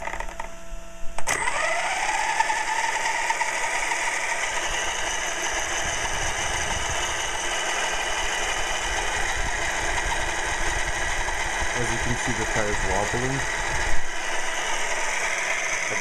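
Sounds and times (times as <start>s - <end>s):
rc truck electric motor whine: 0.0s - 16.0s.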